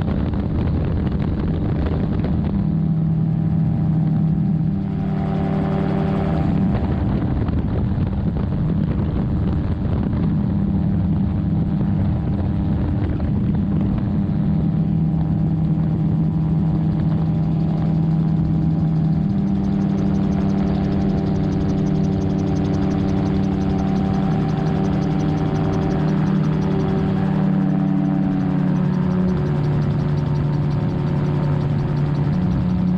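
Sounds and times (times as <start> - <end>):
engine and propeller drone: 0.0 - 32.9
wind rushing over microphone: 0.0 - 32.9.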